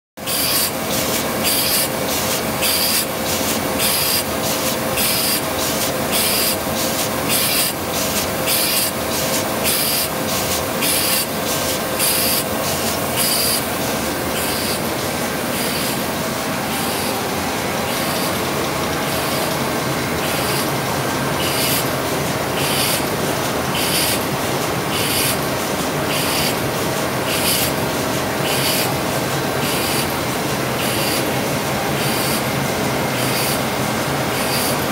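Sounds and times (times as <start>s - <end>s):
laminating machine humming: 0.2s - 34.9s.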